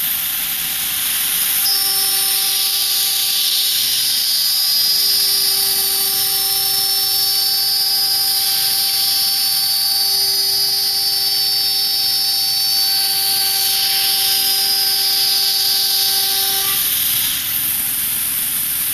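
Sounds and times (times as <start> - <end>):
loud hiss: 0.0 - 18.9
router spindle whine: 0.0 - 18.9.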